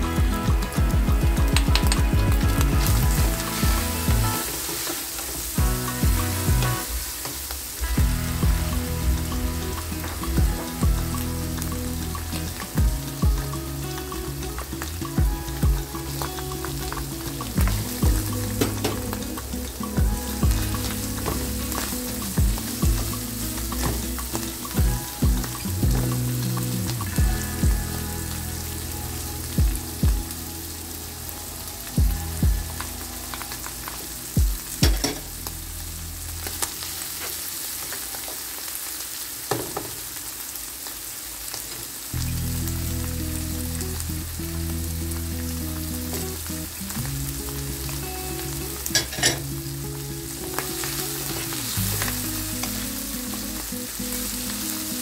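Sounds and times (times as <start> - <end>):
meat sizzling in a frying pan: 0.0 - 55.0.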